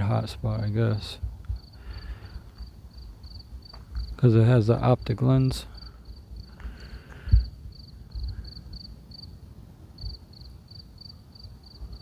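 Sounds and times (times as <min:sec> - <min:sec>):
faint low rumble: 0:00.2 - 0:12.0
cricket chirping: 0:01.5 - 0:09.4, 0:10.0 - 0:12.0.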